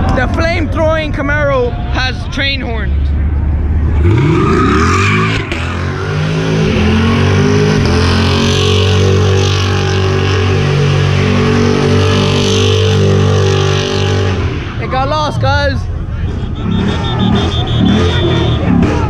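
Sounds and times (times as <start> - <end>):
car engine revving: 2.7 - 19.0.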